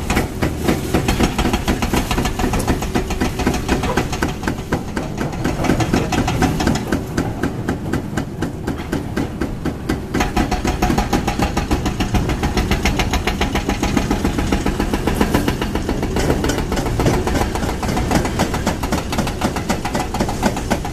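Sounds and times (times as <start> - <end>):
diesel excavator engines running: 0.0 - 20.9
hydraulic breaker hammering concrete: 0.0 - 20.9.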